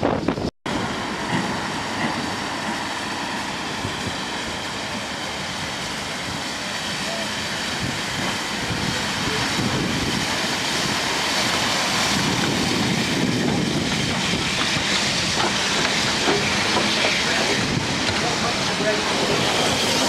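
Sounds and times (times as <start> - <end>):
steam hissing: 0.1 - 20.0
train wheels clattering on rails: 1.1 - 5.2, 7.8 - 20.0.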